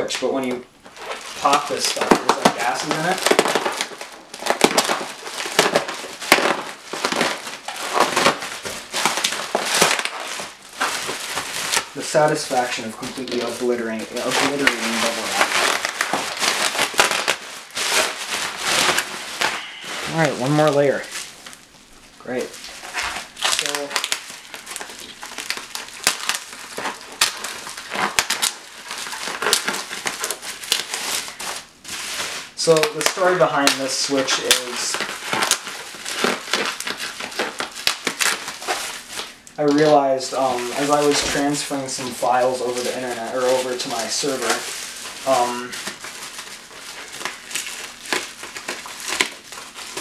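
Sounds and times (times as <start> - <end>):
bubble wrap popping: 0.0 - 50.0.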